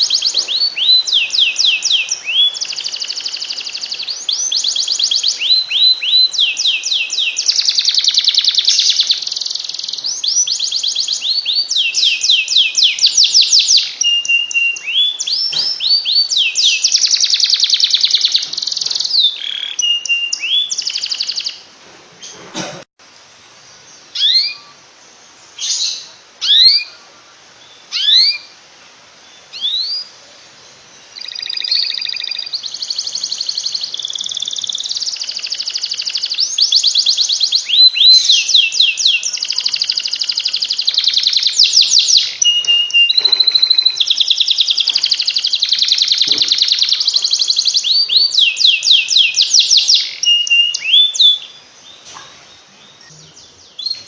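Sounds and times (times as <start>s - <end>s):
canary singing: 0.0s - 22.4s, 23.9s - 28.6s, 29.2s - 54.0s.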